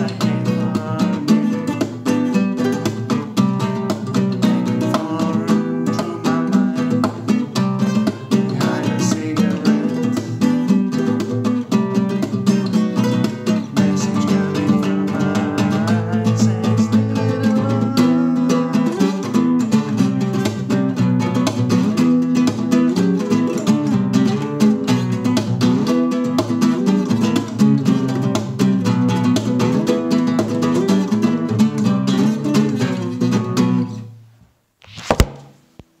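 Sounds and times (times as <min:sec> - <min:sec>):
flamenco guitar strumming: 0:00.0 - 0:34.2.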